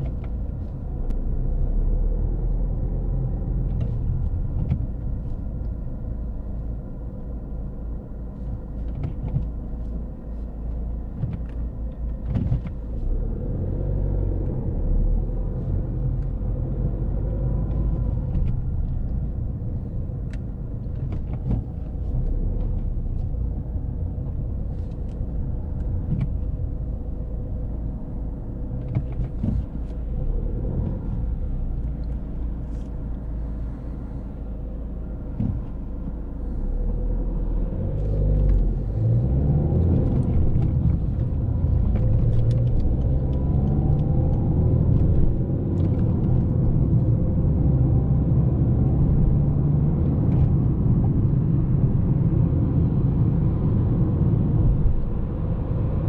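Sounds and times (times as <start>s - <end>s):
diesel car engine running: 0.0s - 56.0s
road rumble: 0.0s - 56.0s.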